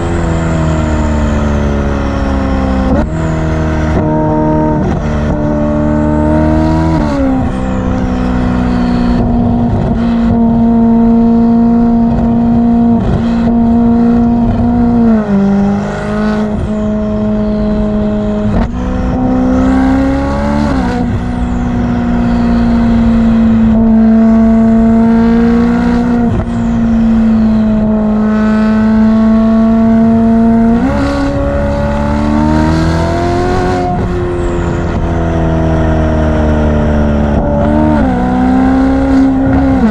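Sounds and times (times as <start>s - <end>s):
sports car engine driving: 0.0s - 39.9s.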